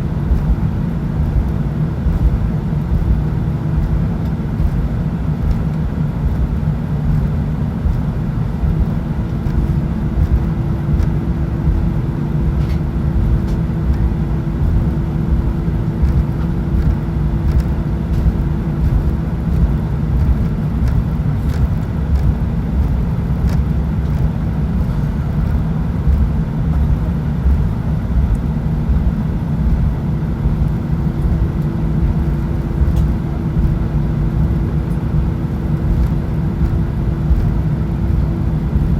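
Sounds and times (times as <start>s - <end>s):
faint steady hum: 0.0s - 38.9s
jet engines rumbling: 0.0s - 38.9s.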